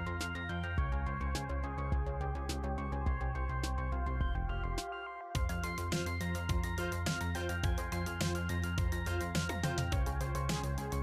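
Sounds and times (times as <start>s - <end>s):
music with fast beat: 0.0s - 11.0s.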